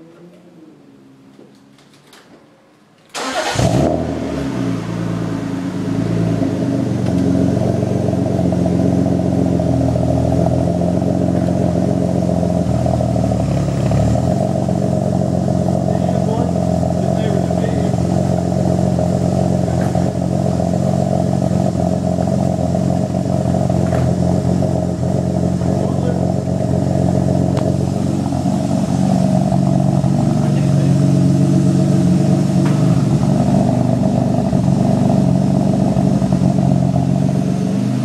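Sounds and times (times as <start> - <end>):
car engine idling: 3.1 - 38.0.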